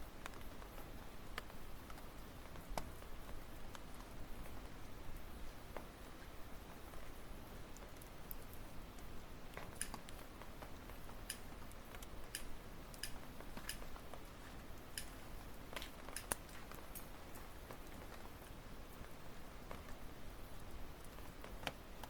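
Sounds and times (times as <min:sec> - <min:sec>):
firewood crackling and popping: 0:00.0 - 0:22.0
low hiss of fire: 0:00.0 - 0:22.0.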